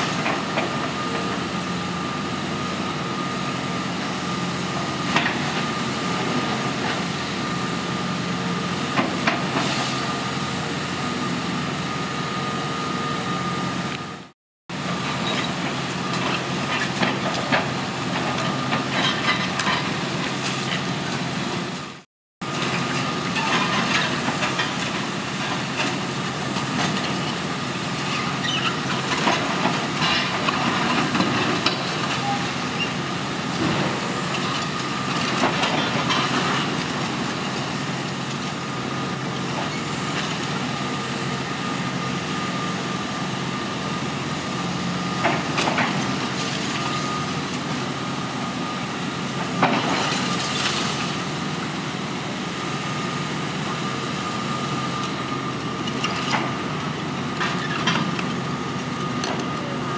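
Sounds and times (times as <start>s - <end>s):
excavator running with high whine: 0.0s - 59.9s.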